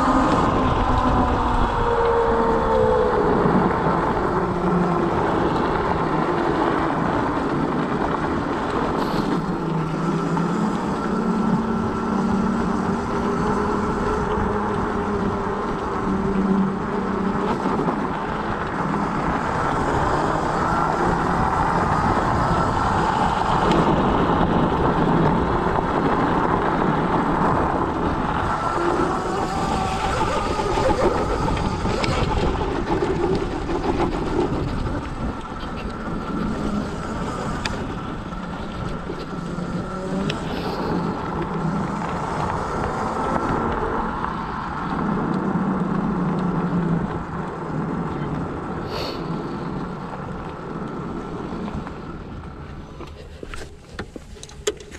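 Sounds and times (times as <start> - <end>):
road noise: 0.0 - 54.9
scooter motor running: 0.0 - 54.9.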